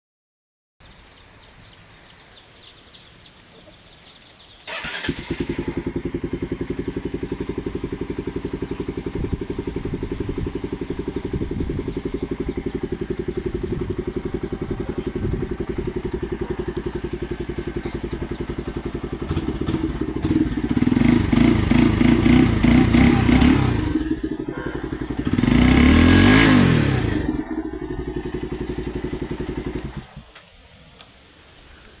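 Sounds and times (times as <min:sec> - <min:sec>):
motorcycle engine idling and revving: 0:04.1 - 0:30.6.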